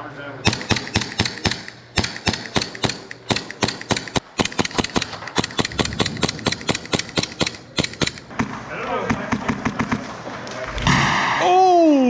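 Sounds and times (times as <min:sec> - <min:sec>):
airsoft guns firing: 0:00.4 - 0:10.3.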